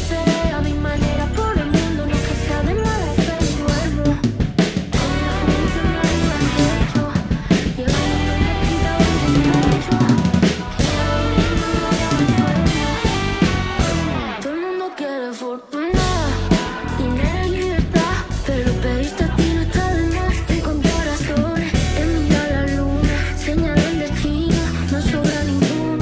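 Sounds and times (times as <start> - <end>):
drum kit playing: 0.0 - 14.5, 16.0 - 26.0
recorded band music: 0.0 - 14.6, 16.0 - 26.0.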